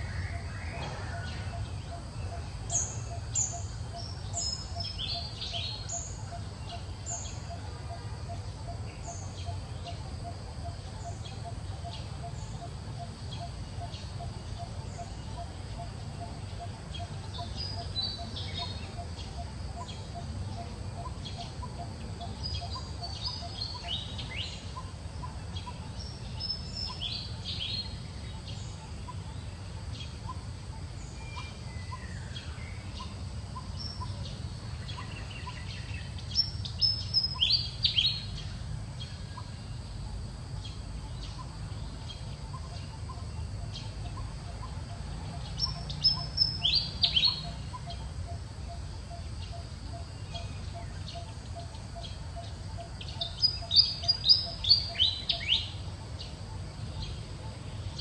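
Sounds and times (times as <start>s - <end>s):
background hiss: 0.0s - 58.0s
songbird singing: 0.0s - 58.0s.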